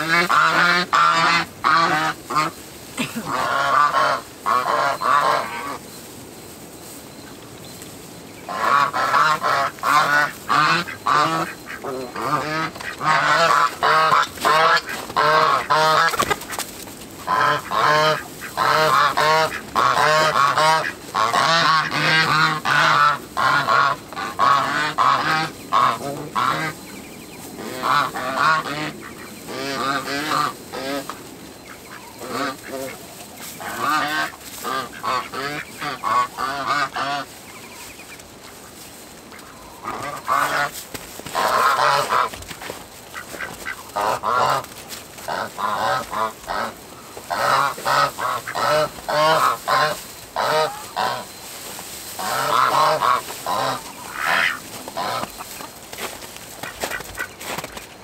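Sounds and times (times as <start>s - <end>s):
geese honking: 0.0s - 6.1s, 8.4s - 57.7s.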